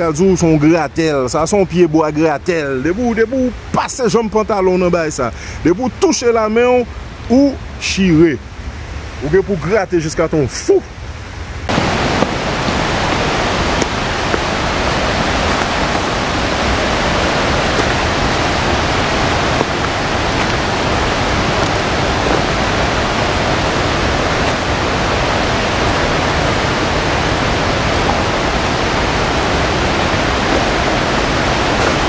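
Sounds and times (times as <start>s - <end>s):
loud steady rushing noise: 0.0s - 32.0s.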